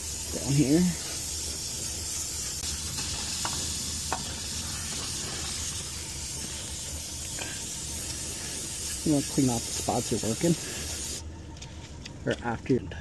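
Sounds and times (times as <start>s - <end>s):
steady background hiss: 0.0s - 13.0s
low hum: 0.1s - 13.0s.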